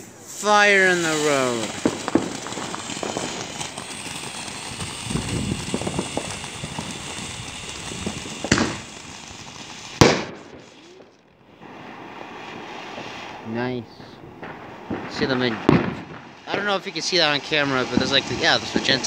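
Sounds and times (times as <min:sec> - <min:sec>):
sharp bangs: 0:00.0 - 0:11.1, 0:13.7 - 0:19.0
firework hissing and crackling: 0:00.0 - 0:19.0.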